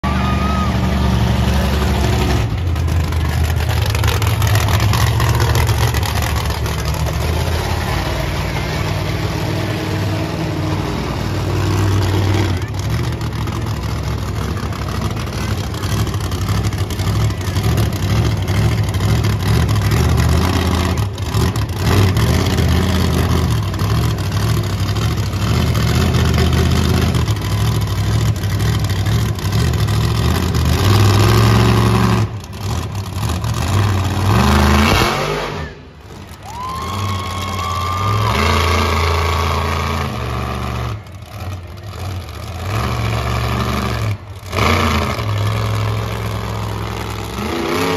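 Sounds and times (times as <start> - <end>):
monster truck engine revving: 0.0 - 47.9.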